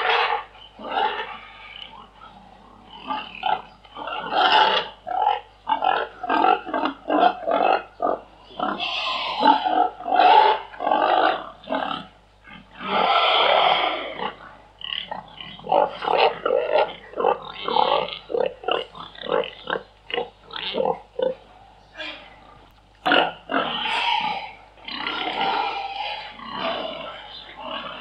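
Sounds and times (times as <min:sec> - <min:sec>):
pigs grunting: 0:00.0 - 0:28.0
pigs squealing: 0:00.0 - 0:28.0.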